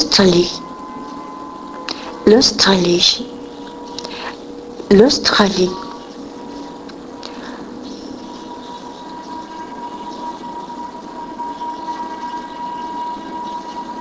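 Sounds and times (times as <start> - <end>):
high whine: 0.0 - 14.0
machine running: 0.0 - 14.0.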